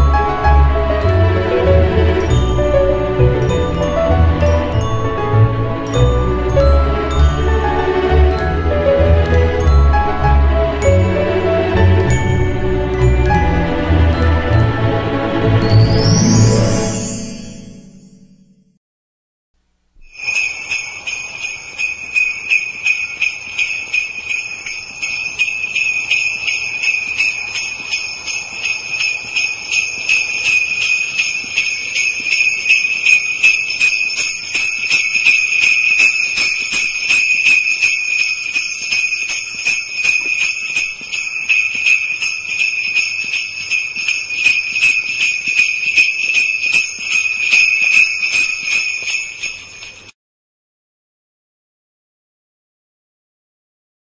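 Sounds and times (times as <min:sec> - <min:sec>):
jingle bells shaken: 0:00.0 - 0:18.4, 0:20.0 - 0:50.2.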